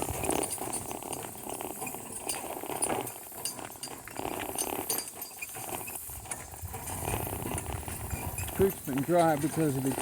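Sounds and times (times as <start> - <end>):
metal harness clinking: 0.0 - 10.0.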